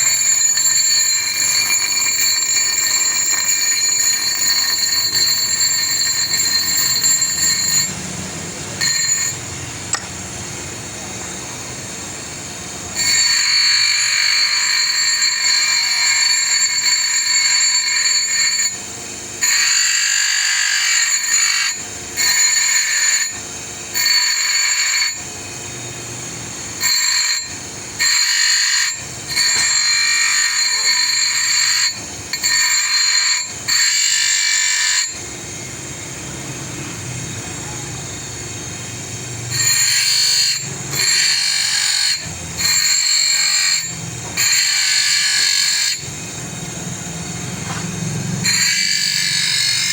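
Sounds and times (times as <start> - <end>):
power tool whining: 0.0 - 49.9.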